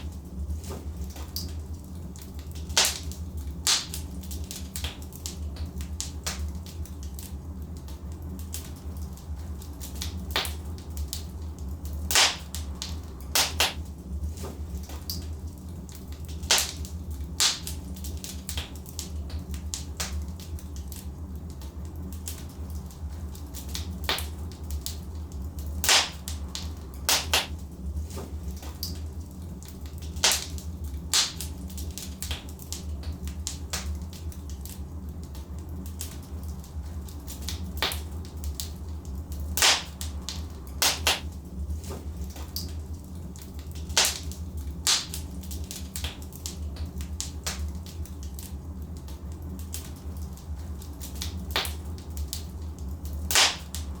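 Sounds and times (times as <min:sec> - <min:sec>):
fire flames rumbling: 0:00.0 - 0:54.0
logs crackling and popping: 0:00.0 - 0:54.0.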